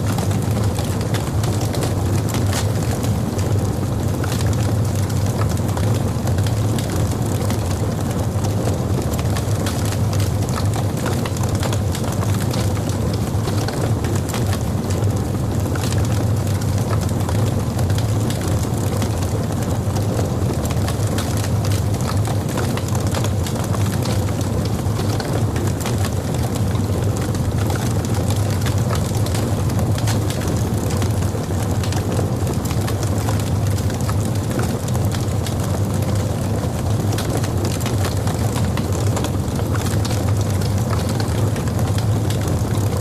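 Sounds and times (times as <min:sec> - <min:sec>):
fire crackles and pops: 0:00.0 - 0:43.0
low rumble of flames: 0:00.0 - 0:43.0.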